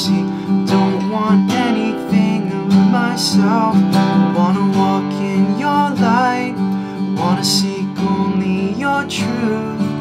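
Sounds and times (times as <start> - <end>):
acoustic guitar strumming: 0.0 - 10.0
man singing: 0.0 - 10.0.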